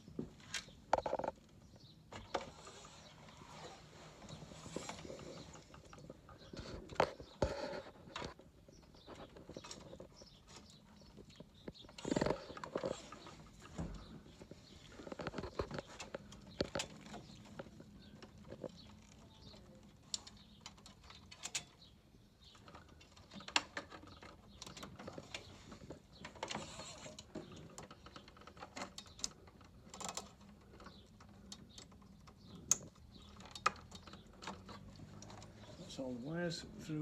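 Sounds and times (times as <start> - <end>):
wiring clicks and rattles: 0.0 - 35.9.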